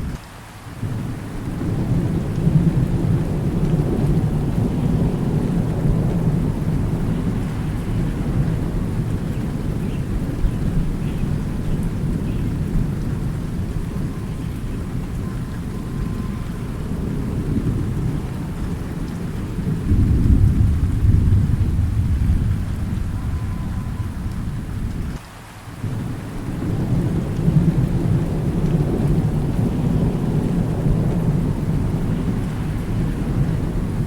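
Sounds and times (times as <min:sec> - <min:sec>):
steady rain: 0:00.0 - 0:34.0
rolling thunder: 0:00.8 - 0:25.2, 0:25.8 - 0:34.0.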